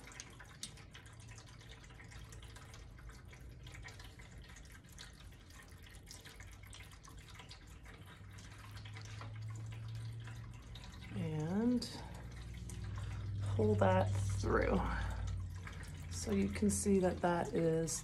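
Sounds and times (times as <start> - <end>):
pump hum: 0.0 - 18.0
water trickling and dripping: 0.0 - 18.0.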